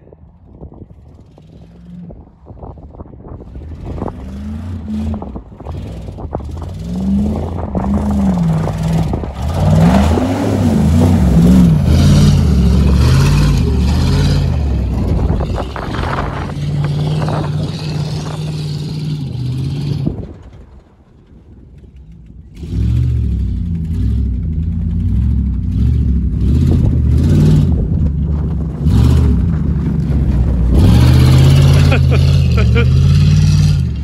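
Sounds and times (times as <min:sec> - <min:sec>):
truck engine revving: 0:01.1 - 0:20.9, 0:22.2 - 0:34.0.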